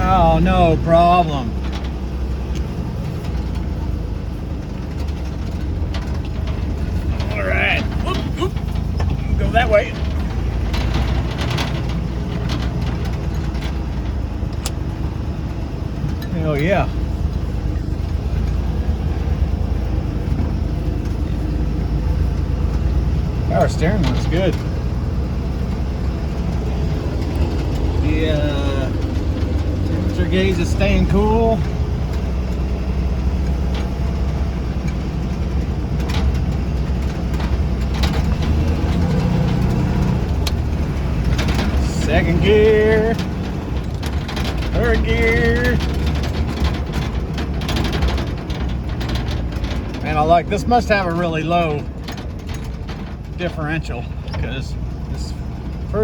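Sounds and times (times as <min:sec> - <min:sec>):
engine running at low speed: 0:00.0 - 0:56.0.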